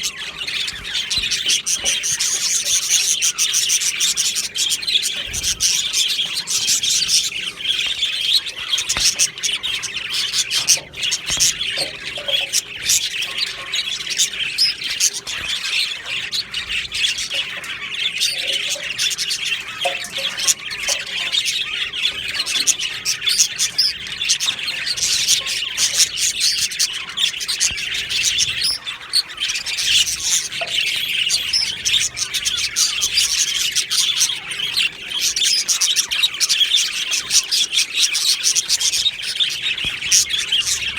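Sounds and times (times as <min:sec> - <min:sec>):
budgies chirping and warbling: 0:00.0 - 0:40.9.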